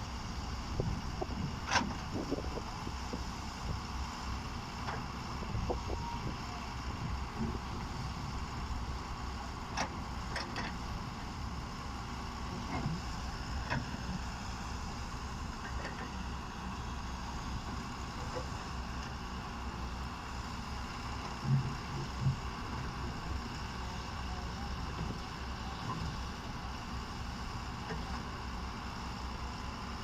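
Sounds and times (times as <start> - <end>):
heavy diesel machinery running: 0.0 - 30.0.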